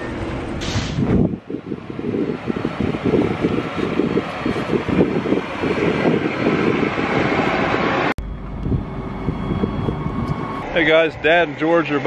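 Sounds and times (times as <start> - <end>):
wind noise on microphone: 0.0 - 10.8
combine harvester engine: 0.0 - 12.0.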